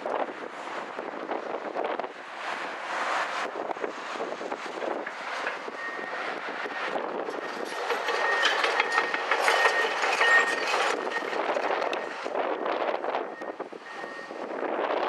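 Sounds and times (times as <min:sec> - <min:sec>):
train wheels on rails: 0:02.3 - 0:14.9.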